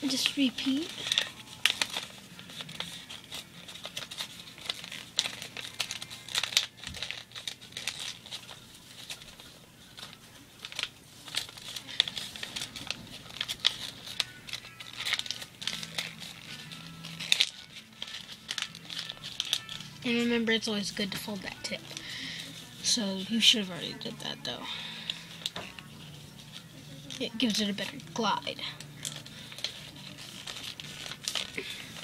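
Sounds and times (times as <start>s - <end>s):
paper crinkling and rustling: 0.0s - 32.0s.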